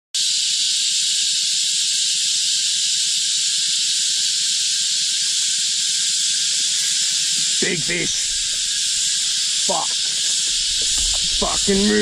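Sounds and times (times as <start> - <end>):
cicada chorus: 0.2 - 12.0.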